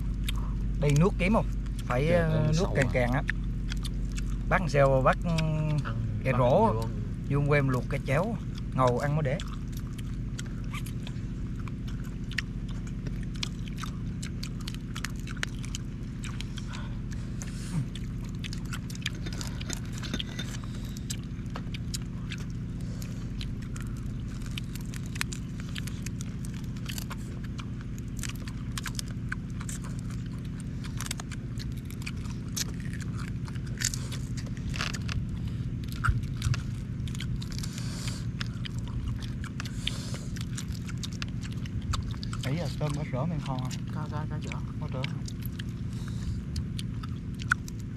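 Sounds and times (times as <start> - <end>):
chewing: 0.0 - 47.9
steady low hum: 0.0 - 47.9.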